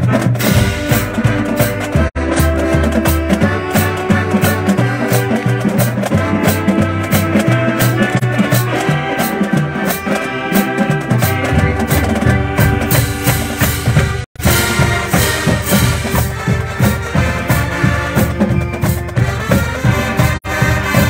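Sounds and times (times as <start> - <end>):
drumline beat: 0.0 - 21.0
marching band playing: 0.0 - 21.0.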